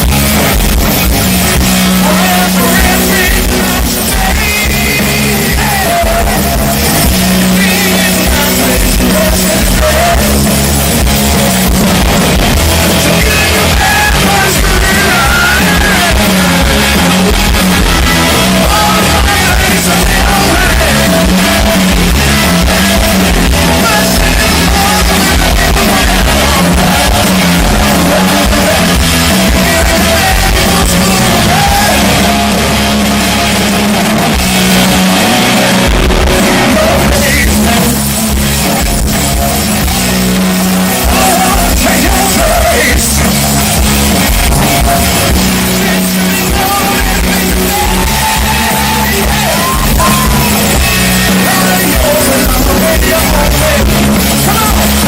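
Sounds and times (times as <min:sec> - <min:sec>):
rock band playing loudly: 0:00.0 - 0:55.0
person singing: 0:01.6 - 0:11.5, 0:12.6 - 0:32.6, 0:34.7 - 0:39.0, 0:39.6 - 0:55.0.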